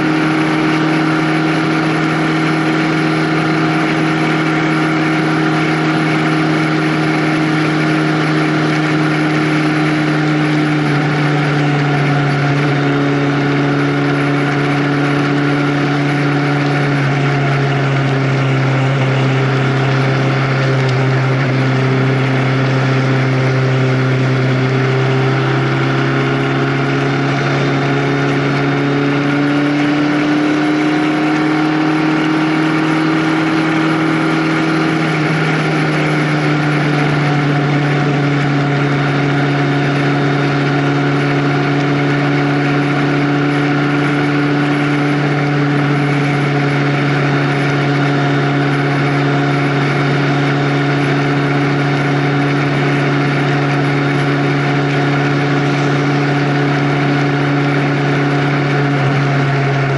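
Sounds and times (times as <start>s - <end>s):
steady rushing noise: 0.0s - 59.9s
vehicle engine droning: 0.0s - 59.9s.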